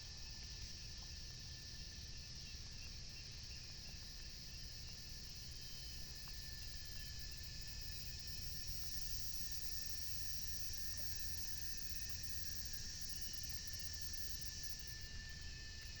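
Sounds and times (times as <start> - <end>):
insect chorus buzzing: 0.1 - 16.0.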